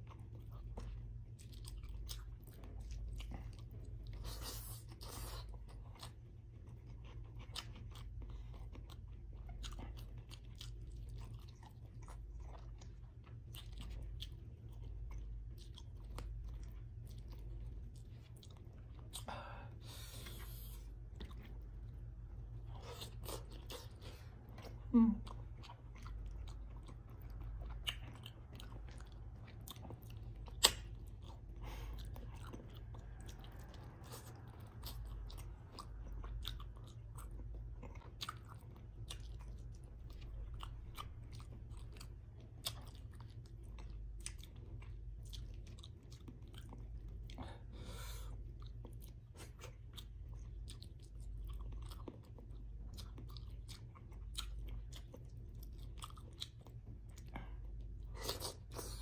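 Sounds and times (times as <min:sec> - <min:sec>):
person chewing food: 0:00.0 - 0:59.0
low hum: 0:06.6 - 0:59.0.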